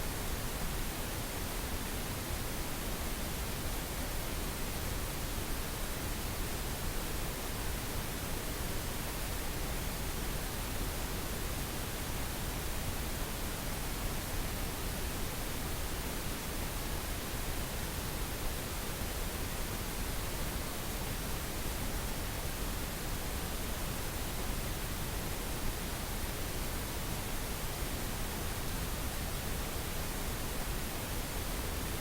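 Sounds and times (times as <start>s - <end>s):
pink noise hiss: 0.0s - 32.0s.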